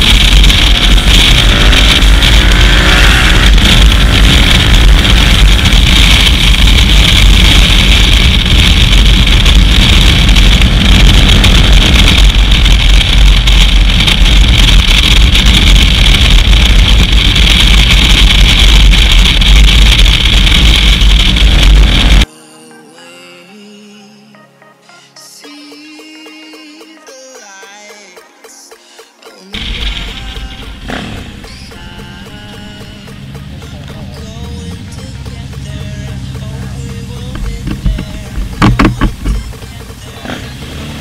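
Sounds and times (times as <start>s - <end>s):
distorted wind buffeting: 0.0s - 22.3s, 29.6s - 41.0s
motorcycle engine running: 0.0s - 22.3s, 29.5s - 41.0s
road noise: 0.0s - 22.3s, 28.7s - 41.0s.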